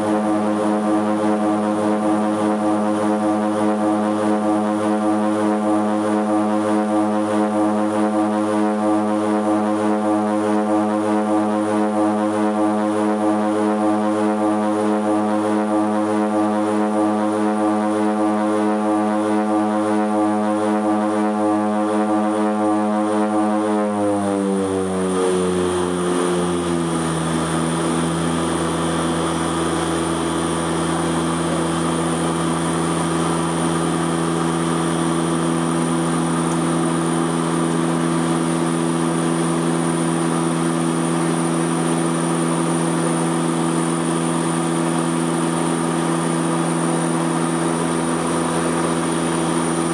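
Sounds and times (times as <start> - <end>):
turboprop engine drone: 0.0 - 49.9.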